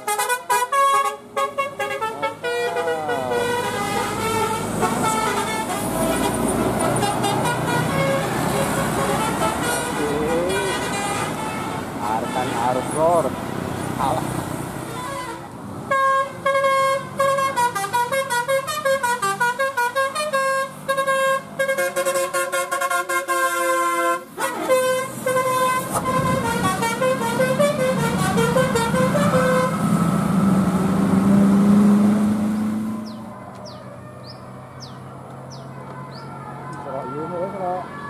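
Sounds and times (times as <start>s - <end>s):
multi-tone bus horn melody: 0.0s - 13.7s, 14.8s - 38.0s
bus engine passing: 0.7s - 38.0s.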